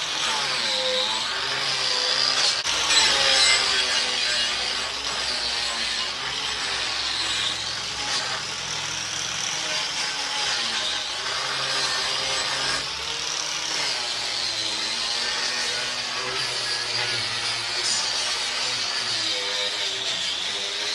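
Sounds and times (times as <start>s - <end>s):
angle grinder scouring metal: 0.0s - 20.9s.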